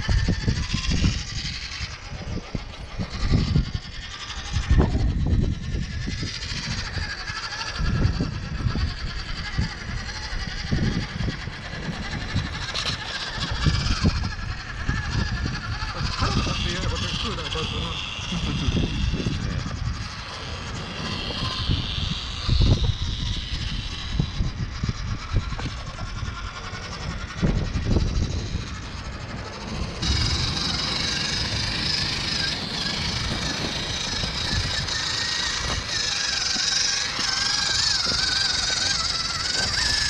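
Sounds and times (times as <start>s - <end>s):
toy truck motor and gears whining: 0.0s - 40.0s.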